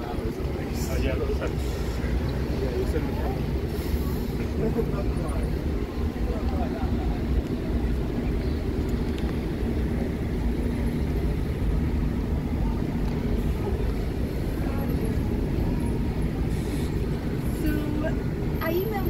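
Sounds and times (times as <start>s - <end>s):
buses running: 0.0s - 19.0s
faint engine hum: 0.0s - 19.0s
road traffic rumble: 0.0s - 19.0s.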